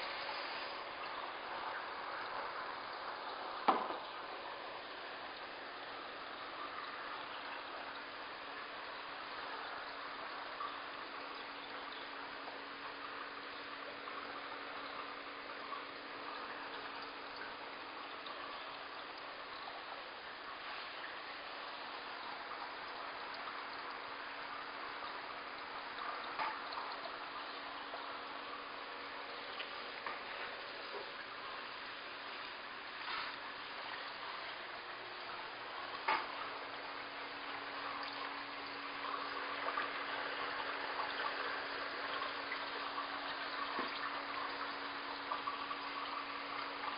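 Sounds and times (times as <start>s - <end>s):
faint steady hum: 0.0s - 46.9s
water trickling in fish tank: 0.0s - 46.9s.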